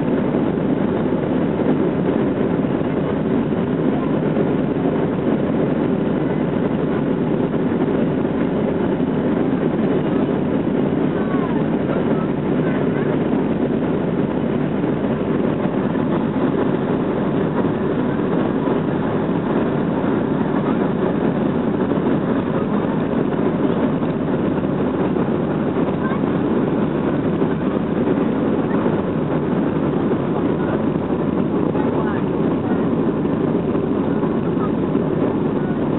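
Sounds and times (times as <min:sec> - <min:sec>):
jet engines roaring: 0:00.0 - 0:35.9
landing gear rumbling on runway: 0:00.1 - 0:35.9.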